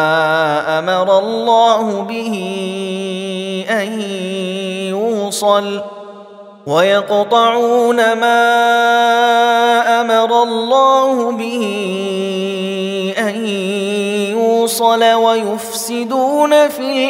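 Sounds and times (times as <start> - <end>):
man chanting recitation: 0.0 - 5.8, 6.7 - 17.0.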